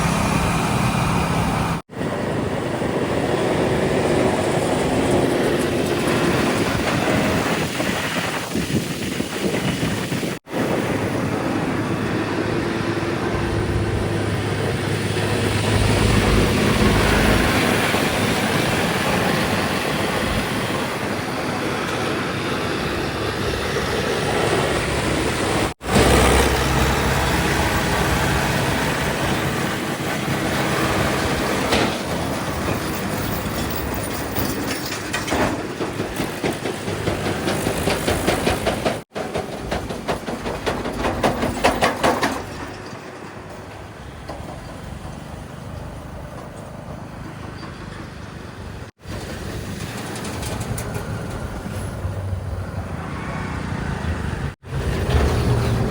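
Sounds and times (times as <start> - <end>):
heavy diesel machinery engines: 0.0 - 55.9.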